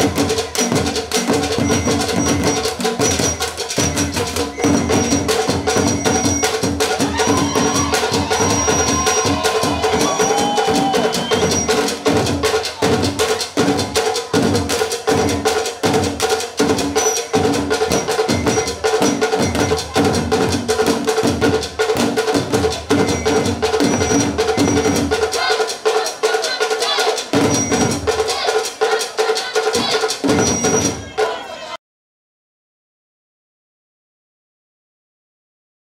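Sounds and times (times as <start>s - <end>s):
wooden drums beaten with sticks: 0.0s - 31.4s.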